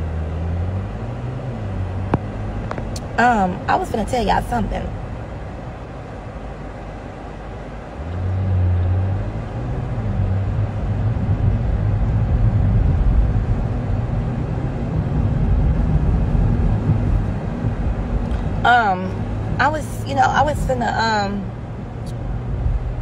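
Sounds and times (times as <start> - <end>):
car rumble: 0.0 - 23.0
low engine hum: 0.0 - 23.0.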